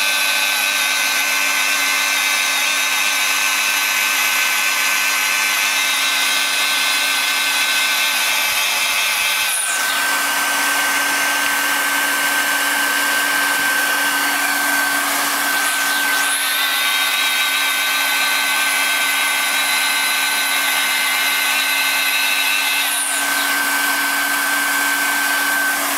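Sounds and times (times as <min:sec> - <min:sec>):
plastic welder motor whine: 0:00.0 - 0:25.9.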